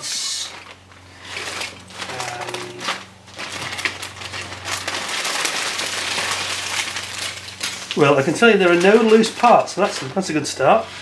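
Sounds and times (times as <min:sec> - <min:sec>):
plastic bag crinkling: 0:00.3 - 0:11.0.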